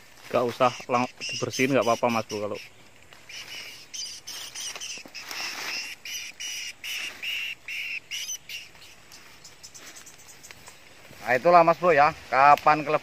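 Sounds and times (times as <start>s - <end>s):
bird chirping: 0.0s - 12.1s.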